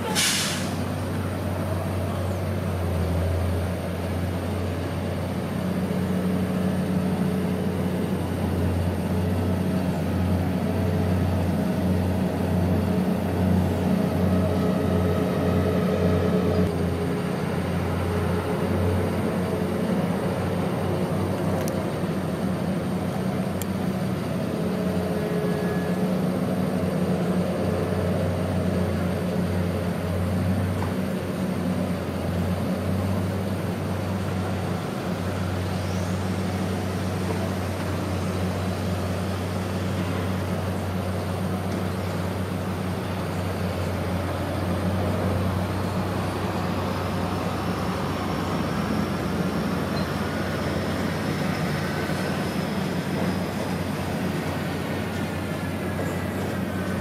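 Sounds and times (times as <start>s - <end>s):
dredge machinery humming: 0.0s - 57.0s.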